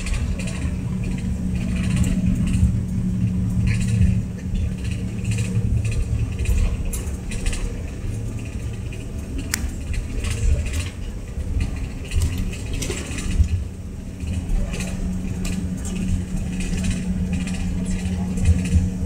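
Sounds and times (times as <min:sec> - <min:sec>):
jet engine hum and rumble: 0:00.0 - 0:19.0
light rattles: 0:00.0 - 0:19.0.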